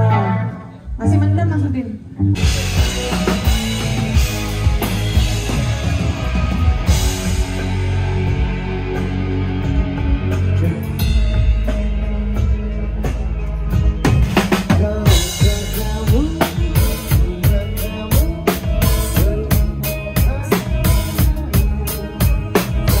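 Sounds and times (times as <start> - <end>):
rock band playing live: 0.0 - 1.1, 2.2 - 23.0
sustained bass: 0.0 - 23.0
drum kit: 2.4 - 23.0.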